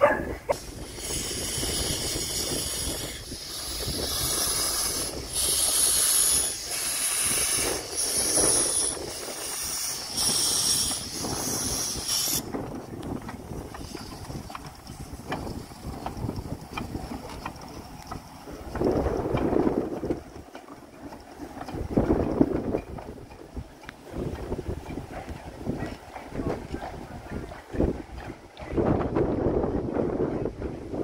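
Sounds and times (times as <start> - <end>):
steam locomotive hissing: 0.0 - 30.1.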